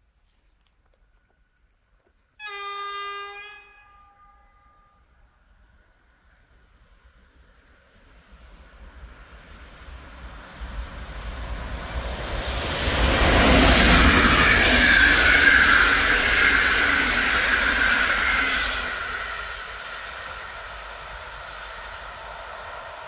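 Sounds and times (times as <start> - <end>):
passenger train passing: 2.4 - 23.0
wheel-on-rail whine: 2.9 - 23.0.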